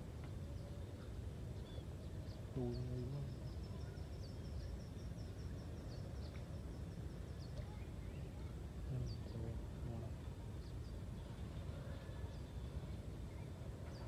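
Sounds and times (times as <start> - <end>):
small bird chirping: 0.4 - 14.0.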